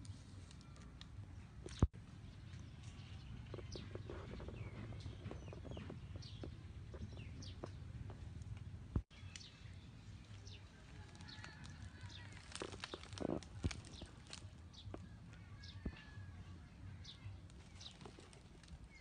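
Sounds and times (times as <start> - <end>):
low outdoor rumble: 0.0 - 19.0
birds chirping: 1.6 - 19.0.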